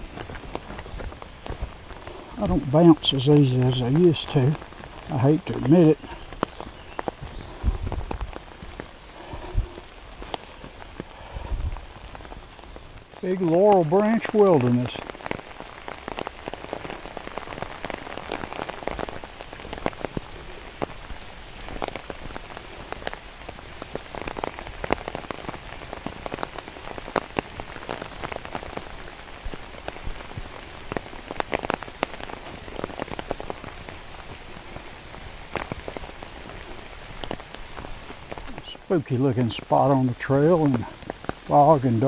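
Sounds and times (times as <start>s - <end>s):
rain on an umbrella: 0.0s - 42.0s.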